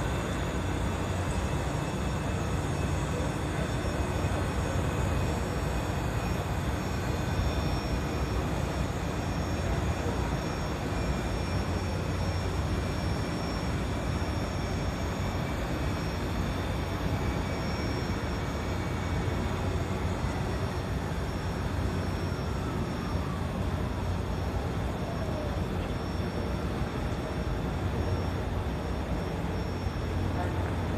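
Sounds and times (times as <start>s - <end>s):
high engine whine: 0.0s - 30.9s.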